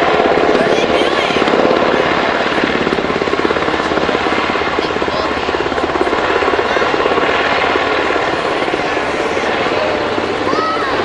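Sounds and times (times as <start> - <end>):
helicopter rotors beating: 0.0 - 11.0.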